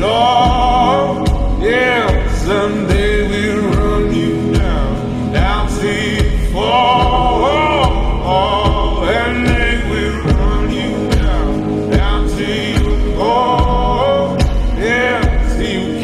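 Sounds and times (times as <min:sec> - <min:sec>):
song with gliding vocals and beat: 0:00.0 - 0:16.0.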